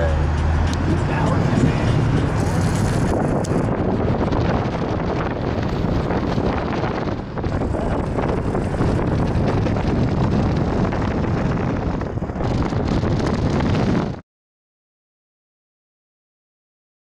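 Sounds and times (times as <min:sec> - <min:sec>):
road noise rumble: 0:00.0 - 0:14.2
wind rushing over microphone: 0:00.0 - 0:14.2.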